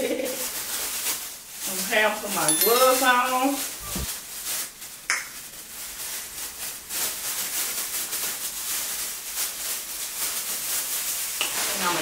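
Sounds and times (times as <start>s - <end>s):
plastic gloves crinkling: 0.1s - 2.3s, 3.0s - 12.0s.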